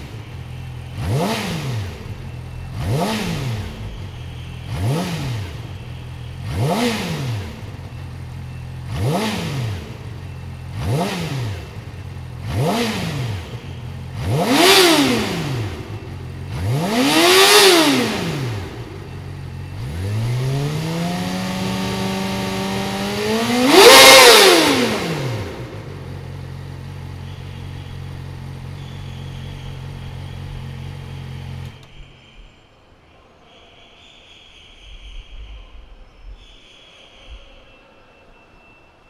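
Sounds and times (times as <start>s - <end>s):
motorcycle engine revving: 0.0s - 32.2s.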